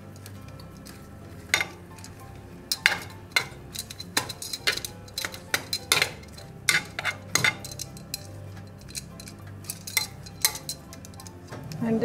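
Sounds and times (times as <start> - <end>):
utensil clinking against dish: 0.0 - 12.0.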